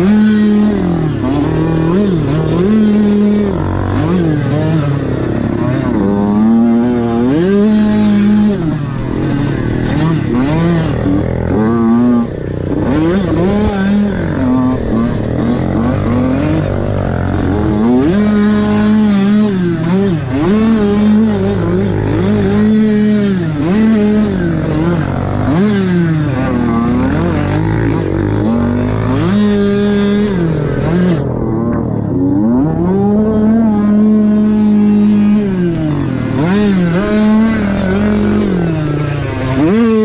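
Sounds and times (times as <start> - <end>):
motorbike engine revving: 0.0 - 40.0.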